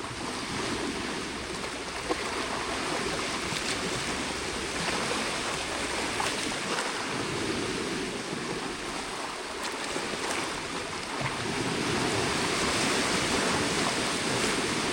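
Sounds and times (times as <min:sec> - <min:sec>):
waves washing against rocks: 0:00.0 - 0:14.9.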